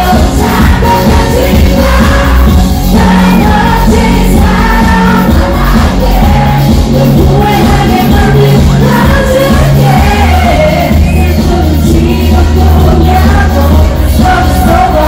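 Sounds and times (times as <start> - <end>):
pop song over loudspeakers: 0.0 - 15.0.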